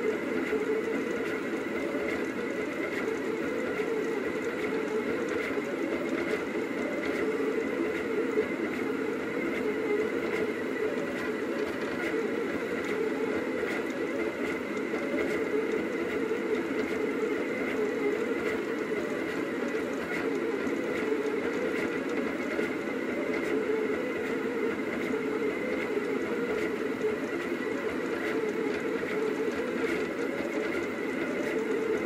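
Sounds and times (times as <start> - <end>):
printer motors humming and whirring: 0.0 - 32.0.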